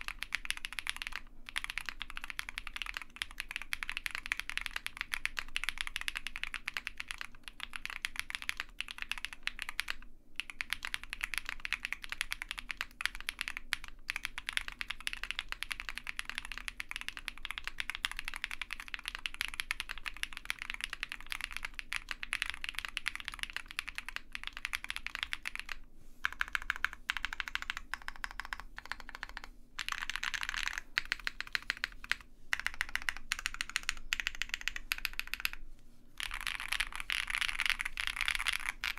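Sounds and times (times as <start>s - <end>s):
mechanical keyboard typing: 0.0s - 35.6s, 36.2s - 38.9s.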